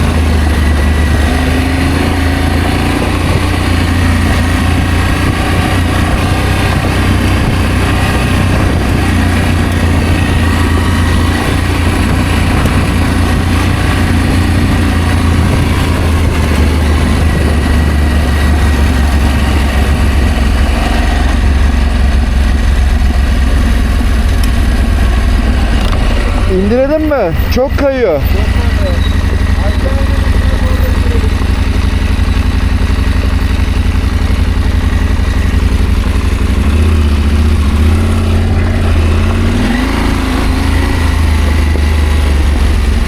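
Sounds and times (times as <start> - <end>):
wind noise: 0.0 - 31.9, 36.2 - 43.0
motorcycle engine rumbling: 0.0 - 43.0
road noise: 0.0 - 43.0.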